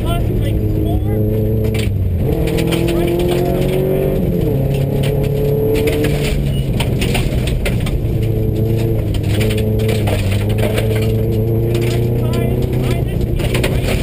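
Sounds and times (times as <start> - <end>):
gravel rattling against car: 0.0 - 14.0
rally car engine revving: 0.0 - 14.0.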